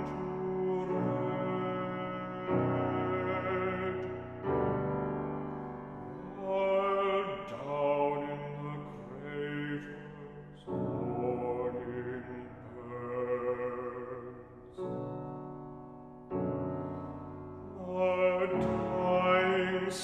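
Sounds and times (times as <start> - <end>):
baritone singing: 0.0 - 14.9, 17.6 - 20.0
piano chords: 0.0 - 20.0.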